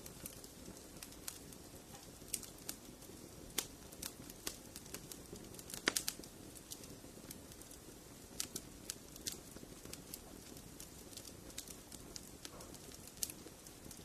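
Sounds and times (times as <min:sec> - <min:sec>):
fire crackling and popping: 0:00.0 - 0:14.0
low hiss of fire: 0:00.0 - 0:14.0.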